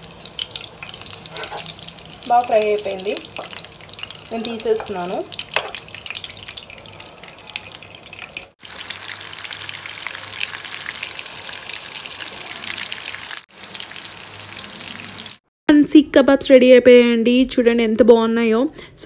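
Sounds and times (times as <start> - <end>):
kebabs sizzling in hot oil: 0.0 - 15.4.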